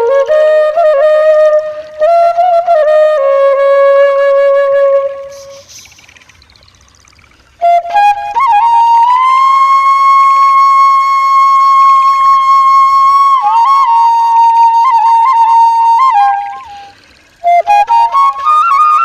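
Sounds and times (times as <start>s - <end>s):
bamboo flute melody: 0.0s - 6.4s, 7.3s - 19.0s.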